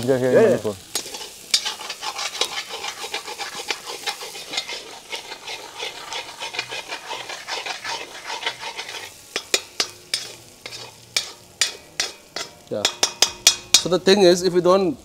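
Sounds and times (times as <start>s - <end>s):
frying sizzle: 0.0s - 15.0s
metal spatula scraping wok: 0.8s - 14.5s.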